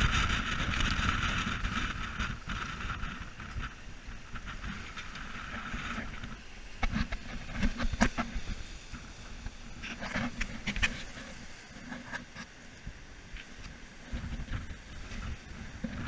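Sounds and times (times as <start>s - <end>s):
wind and water rushing: 0.0s - 16.0s.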